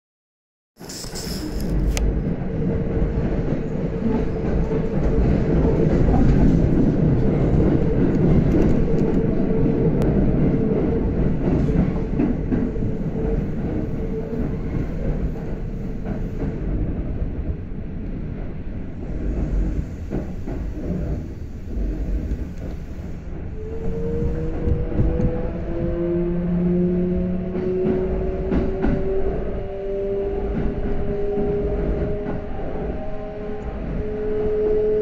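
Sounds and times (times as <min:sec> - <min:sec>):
electric train running rumble: 0:00.8 - 0:35.0.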